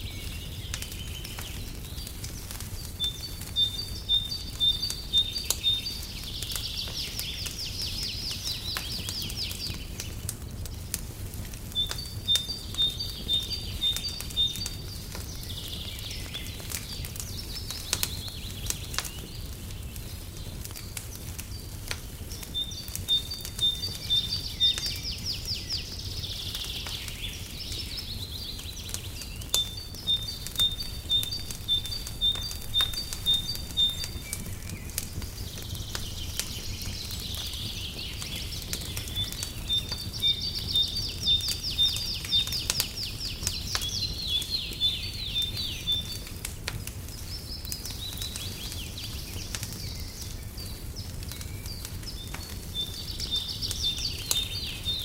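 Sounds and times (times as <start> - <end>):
fireplace crackling: 0.0 - 55.0
birdsong with piping notes and trills: 0.1 - 10.2, 11.7 - 20.6, 21.2 - 46.4, 47.1 - 55.0.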